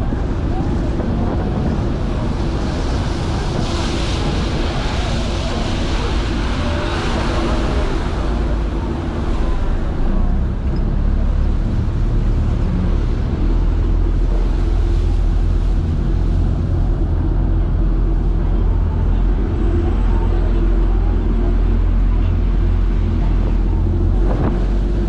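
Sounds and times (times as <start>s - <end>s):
rushing water: 0.0s - 25.0s
ship engine drone: 0.0s - 25.0s
wind: 0.0s - 25.0s.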